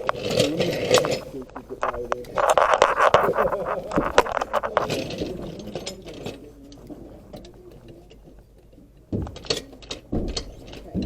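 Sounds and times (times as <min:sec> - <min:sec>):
light metallic clinks and rattles: 0:00.0 - 0:11.0.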